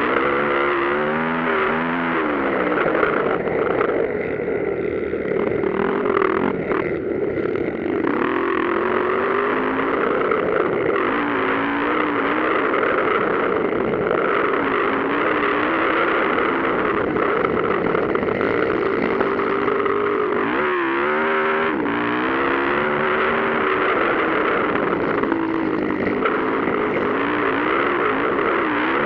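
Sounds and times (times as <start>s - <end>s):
dirt bike engines racing: 0.0s - 29.0s.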